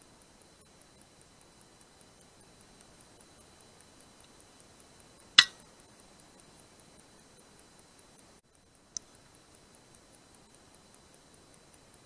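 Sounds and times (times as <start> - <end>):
faint rapid high ticking: 0.0 - 12.0.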